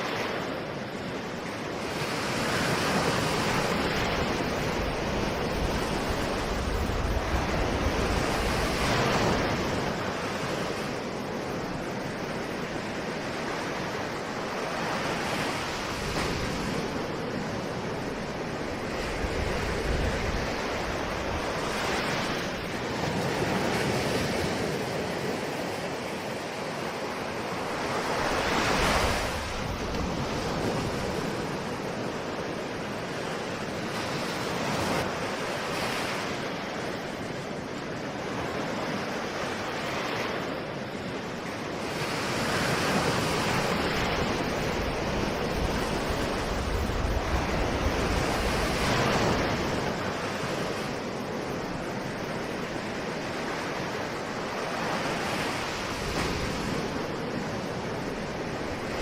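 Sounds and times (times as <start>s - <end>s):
ocean waves washing on shore: 0.0s - 59.0s.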